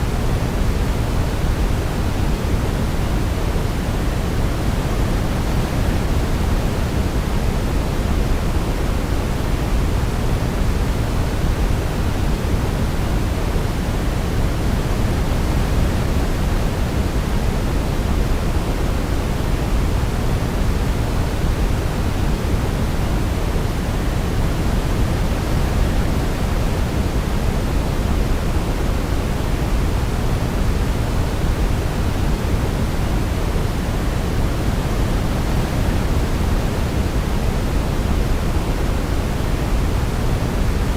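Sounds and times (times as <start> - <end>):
deep white noise hiss: 0.0 - 40.9.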